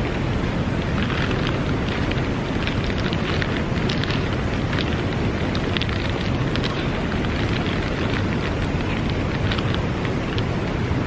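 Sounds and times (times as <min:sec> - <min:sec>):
plastic bag crackling: 0:00.8 - 0:10.7.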